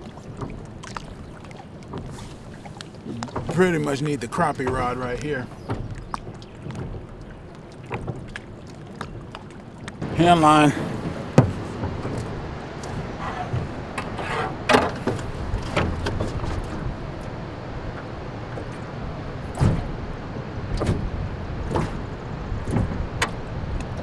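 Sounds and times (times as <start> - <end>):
knocks and thumps against boat: 0.0 - 24.0
low wind rumble: 0.0 - 24.0.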